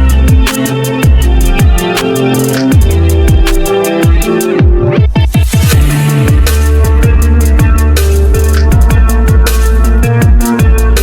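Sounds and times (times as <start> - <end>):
drum beat: 0.0 - 11.0
swooping bass drops: 0.0 - 11.0
synth chords: 0.0 - 11.0.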